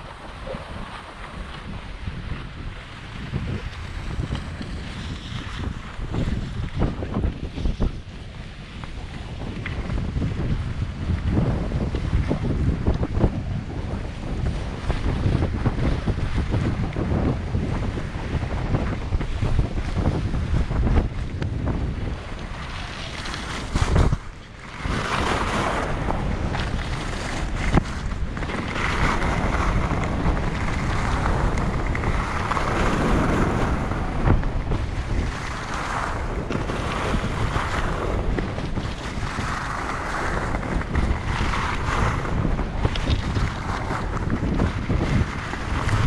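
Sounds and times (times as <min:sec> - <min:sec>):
skis scraping on snow: 0:00.0 - 0:46.0
wind over microphone: 0:00.0 - 0:46.0.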